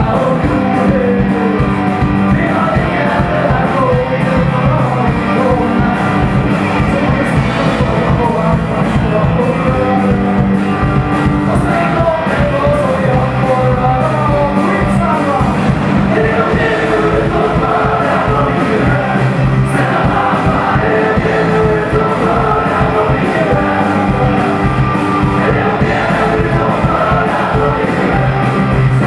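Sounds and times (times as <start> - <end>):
electric guitars: 0.0 - 29.0
lead singer: 0.0 - 29.0.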